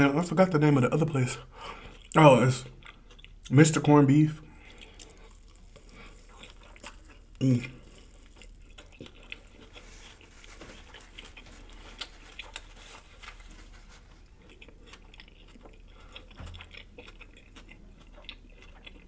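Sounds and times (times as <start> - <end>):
person chewing food: 1.4 - 3.6, 4.4 - 19.0.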